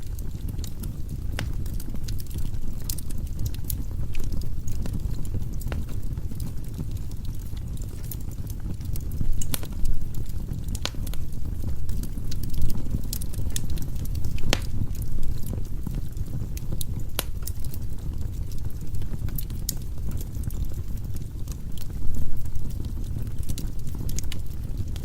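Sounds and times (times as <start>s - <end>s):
firewood crackling and popping: 0.0s - 25.0s
low fire rumble: 0.0s - 25.0s.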